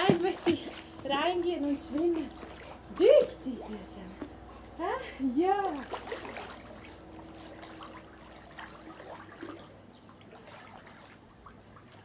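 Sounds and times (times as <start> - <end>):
faint steady hum: 0.0 - 12.0
pool water splashing: 0.0 - 12.0.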